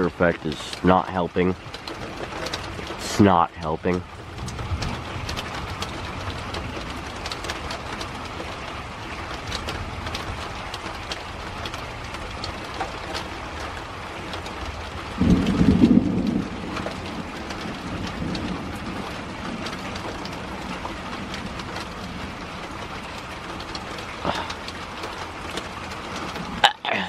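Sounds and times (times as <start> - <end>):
thunder rumble: 0.0 - 12.7, 14.1 - 25.0
rain falling: 0.0 - 27.0
raindrops ticking: 0.0 - 27.0.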